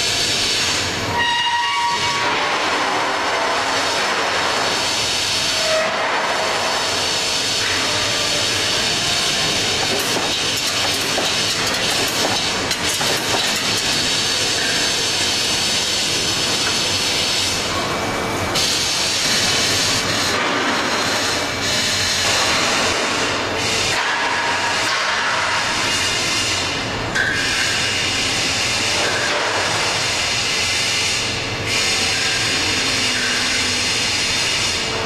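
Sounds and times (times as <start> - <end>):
machine hissing rush: 2.1 - 34.9.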